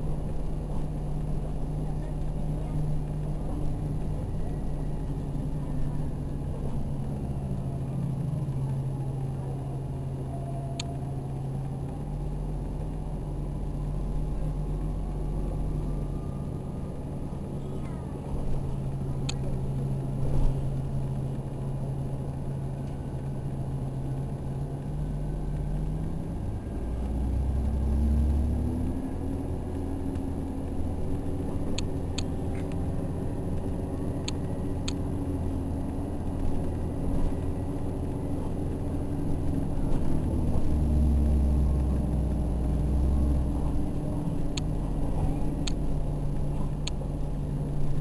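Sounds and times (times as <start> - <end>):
bus drivetrain hum: 0.0 - 48.0
road rumble: 0.0 - 48.0.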